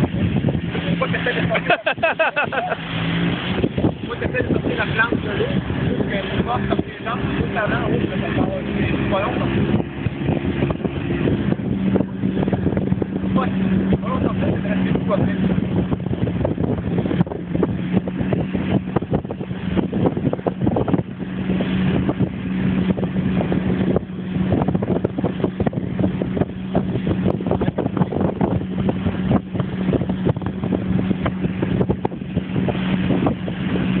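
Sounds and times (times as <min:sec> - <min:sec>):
motorboat engine drone: 0:00.0 - 0:34.0
wind on microphone: 0:00.0 - 0:34.0.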